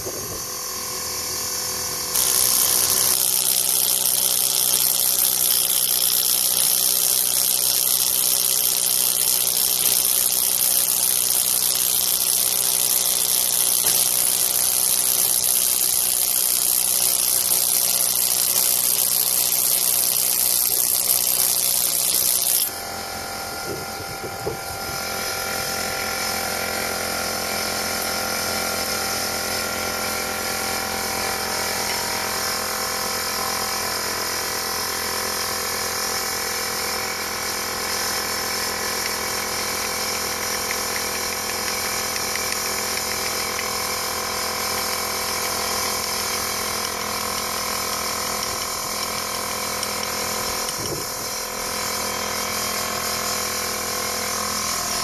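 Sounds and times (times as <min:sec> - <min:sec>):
pressure washer running: 0:00.0 - 0:55.0.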